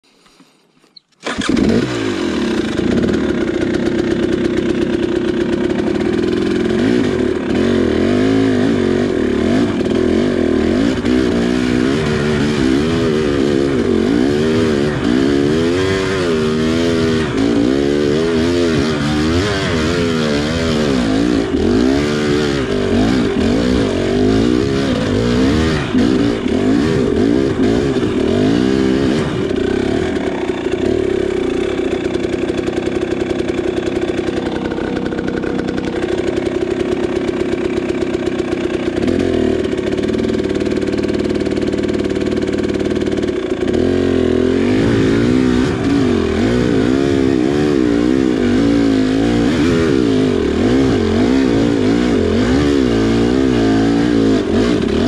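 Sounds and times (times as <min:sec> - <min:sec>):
dirt bike engine revving: 0:01.2 - 0:55.0.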